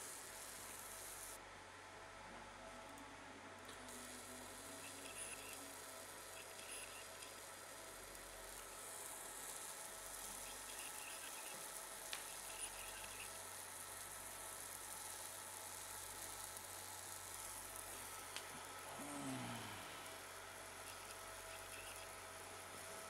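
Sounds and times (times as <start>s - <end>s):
laser cutting metal hiss: 0.0s - 1.4s, 3.9s - 23.0s.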